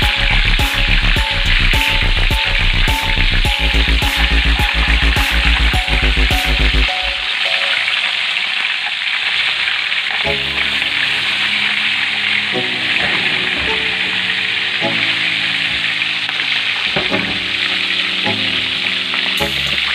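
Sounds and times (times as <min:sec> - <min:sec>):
fish frying in oil: 0:00.0 - 0:19.9.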